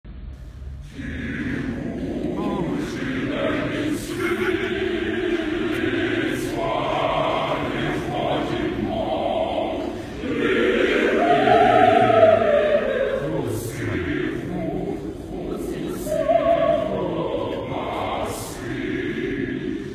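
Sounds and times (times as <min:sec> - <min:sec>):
choir singing: 0:00.8 - 0:19.9.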